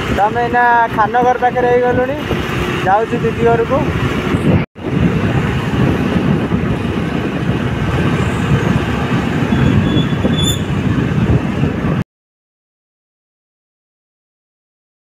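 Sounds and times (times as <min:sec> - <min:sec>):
wind and road noise: 0:00.0 - 0:12.1.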